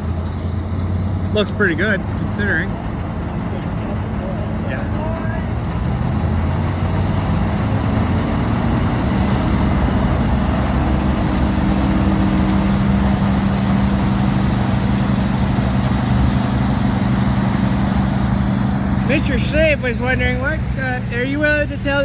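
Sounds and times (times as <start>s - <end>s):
farm machinery engine running: 0.0s - 22.0s.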